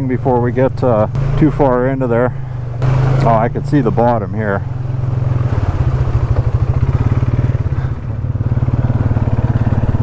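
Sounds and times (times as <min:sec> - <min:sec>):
atv engine pulsing under load: 0:00.0 - 0:10.0.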